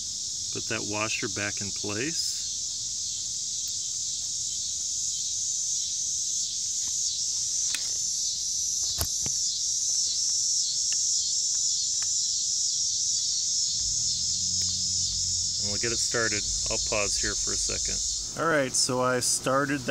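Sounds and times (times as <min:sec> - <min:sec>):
crickets chirping: 0:00.0 - 0:19.7.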